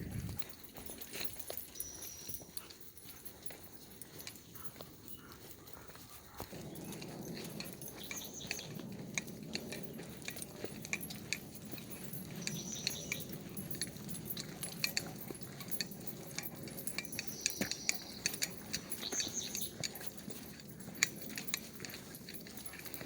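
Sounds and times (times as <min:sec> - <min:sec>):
dog collar tags jingling: 0:00.0 - 0:23.0.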